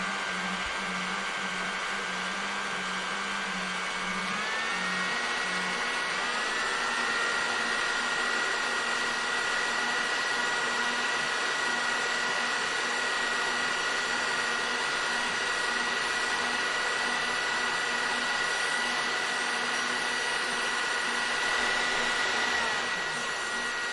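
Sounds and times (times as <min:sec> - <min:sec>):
hair dryer running: 0:00.0 - 0:23.9.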